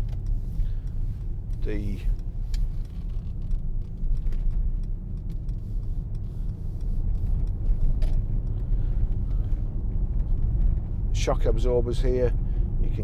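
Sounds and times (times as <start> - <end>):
car engine idling rumble: 0.0 - 13.0.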